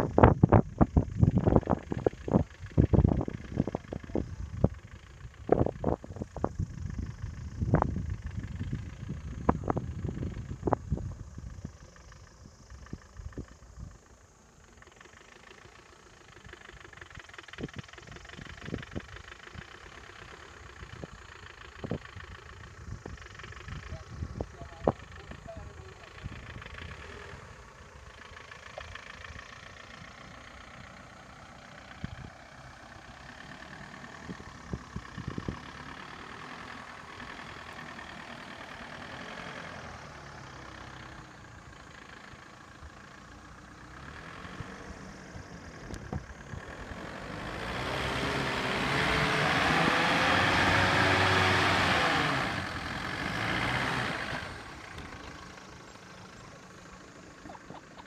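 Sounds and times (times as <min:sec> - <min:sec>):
off-road vehicle engine revving: 0:00.0 - 0:10.9, 0:14.7 - 0:58.0.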